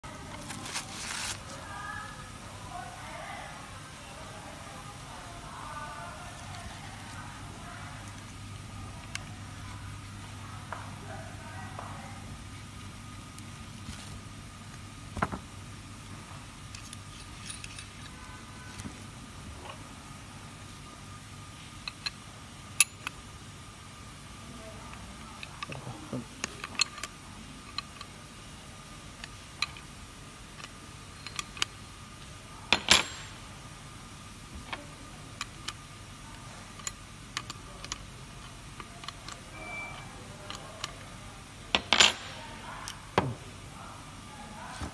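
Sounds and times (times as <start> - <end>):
steady background hum: 0.0 - 44.9.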